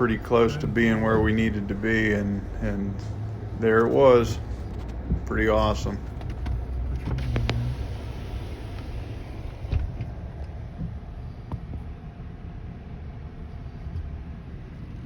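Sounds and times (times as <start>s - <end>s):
engine rumbling inside cab: 0.0s - 15.0s.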